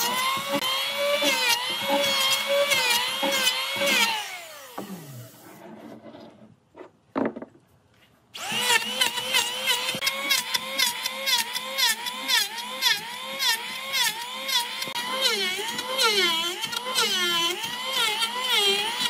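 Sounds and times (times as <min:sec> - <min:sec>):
power tool cutting wood: 0:00.0 - 0:05.6, 0:08.4 - 0:19.0.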